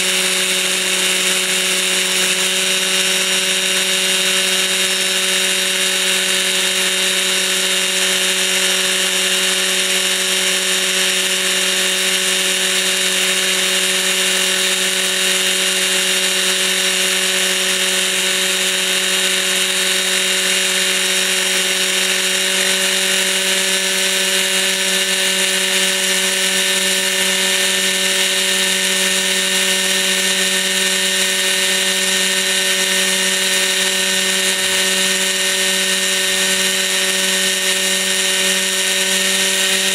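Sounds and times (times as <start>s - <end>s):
model helicopter engine buzzing: 0.0s - 39.9s
rotor spinning: 0.0s - 39.9s.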